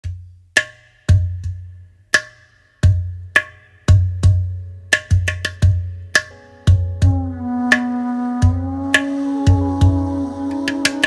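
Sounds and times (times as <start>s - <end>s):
percussion music: 0.0s - 11.0s.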